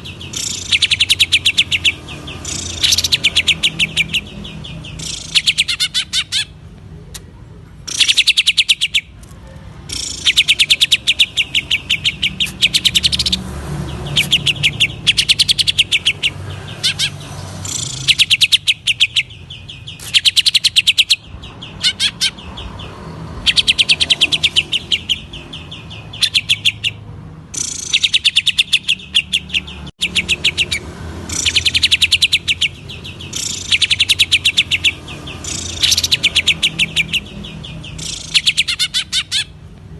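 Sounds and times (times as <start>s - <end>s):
bird chattering song: 0.0s - 39.7s.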